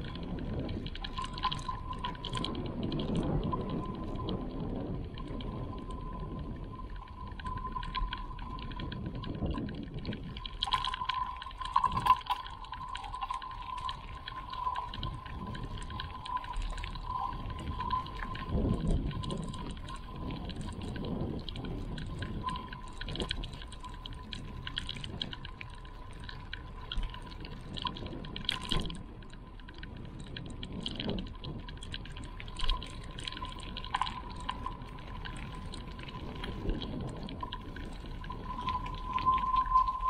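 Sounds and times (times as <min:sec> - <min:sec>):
water drips and plops: 0:00.0 - 0:40.0
brook trickling and splashing: 0:05.3 - 0:40.0.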